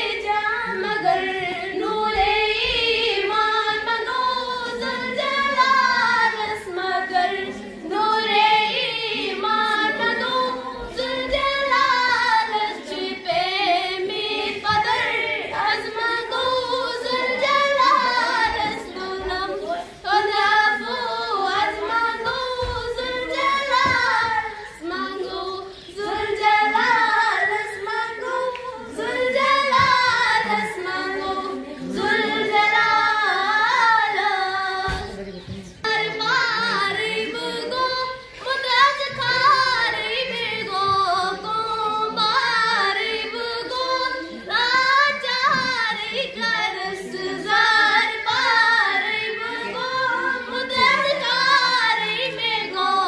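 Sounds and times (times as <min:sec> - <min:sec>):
girl singing into a microphone: 0:00.0 - 0:53.0.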